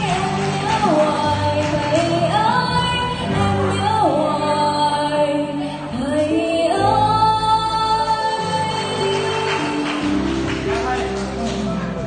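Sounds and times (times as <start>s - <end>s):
woman singing into microphone: 0.0s - 10.3s
instrumental accompaniment: 0.0s - 12.0s.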